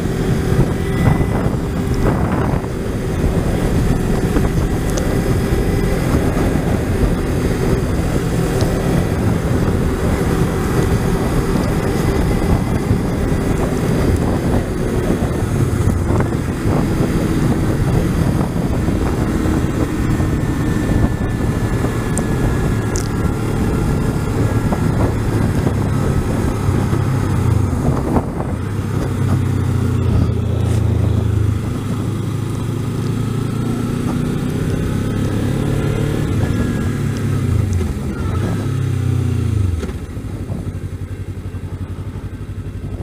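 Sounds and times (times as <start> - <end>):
motorcycle engine running: 0.0 - 43.0
wind noise on microphone: 0.0 - 43.0.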